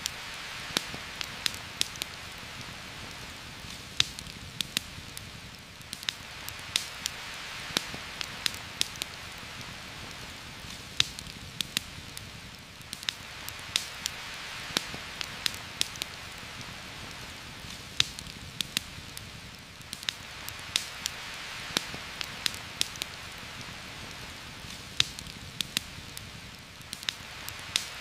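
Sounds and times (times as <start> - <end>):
campfire crackling and popping: 0.0 - 28.0
steady rain falling: 0.0 - 28.0.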